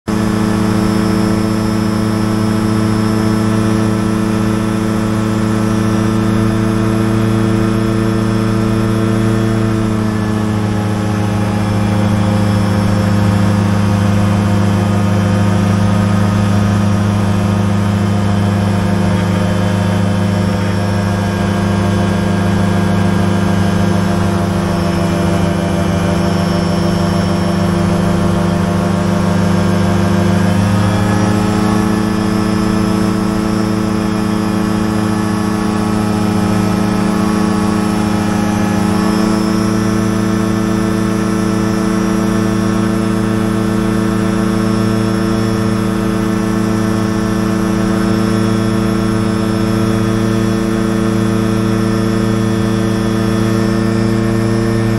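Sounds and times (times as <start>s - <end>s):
light aircraft engine droning: 0.1s - 54.9s.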